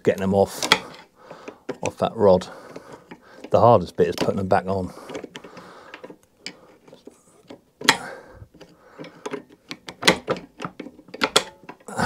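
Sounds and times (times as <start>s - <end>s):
small metallic clicks and scrapes: 0.0s - 11.9s.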